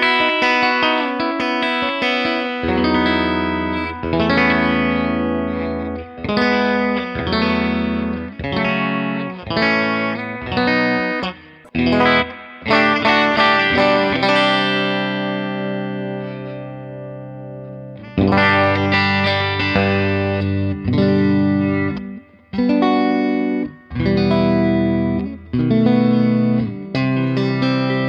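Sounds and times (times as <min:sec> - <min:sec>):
clean electric guitar chords: 0:00.0 - 0:28.0.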